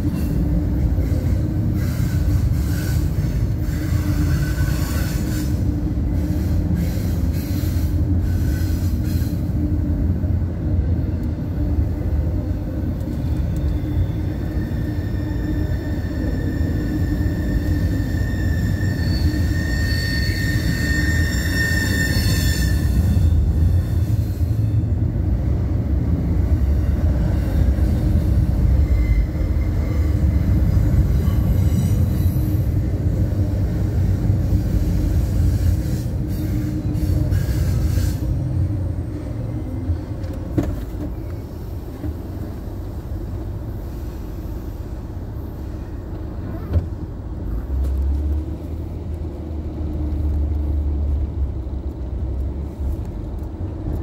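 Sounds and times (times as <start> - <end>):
train wheel squeal: 0.0 - 9.9, 11.1 - 25.2, 26.0 - 48.5
freight train rumbling past: 0.0 - 54.0.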